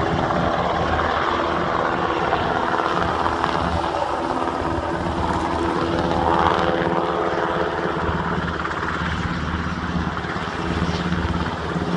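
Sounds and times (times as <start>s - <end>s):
helicopter flying past: 0.0s - 11.9s.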